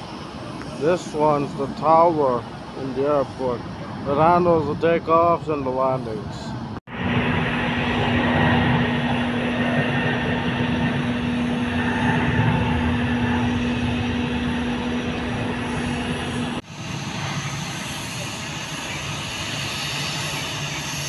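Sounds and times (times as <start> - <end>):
low background rumble: 0.0 - 18.2
jet engines roaring: 0.0 - 21.0.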